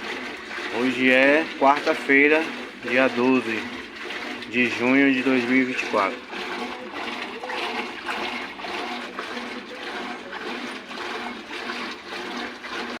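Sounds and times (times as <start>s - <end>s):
washing machine agitating: 0.0s - 13.0s
water and clothes sloshing: 0.0s - 13.0s.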